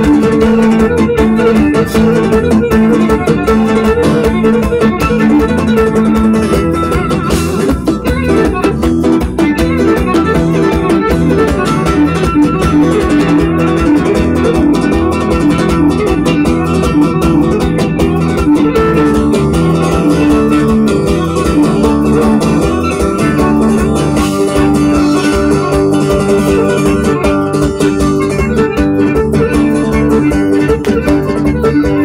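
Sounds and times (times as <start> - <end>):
folk dance music with plucked lutes: 0.0 - 32.0.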